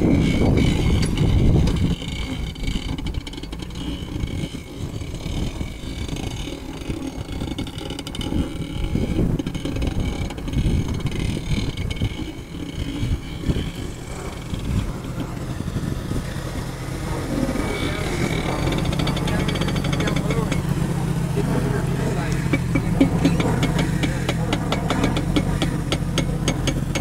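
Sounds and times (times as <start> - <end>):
car engine running at low speed: 0.0 - 27.0.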